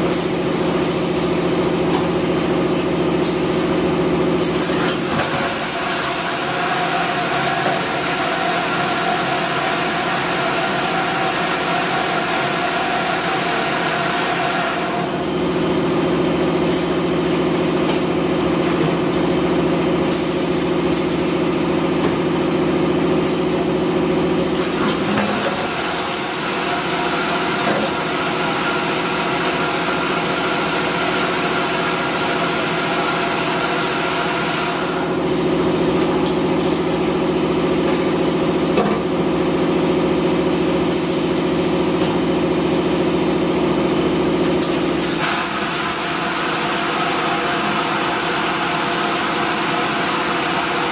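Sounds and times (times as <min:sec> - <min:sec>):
machine mechanical hum: 0:00.0 - 0:50.9.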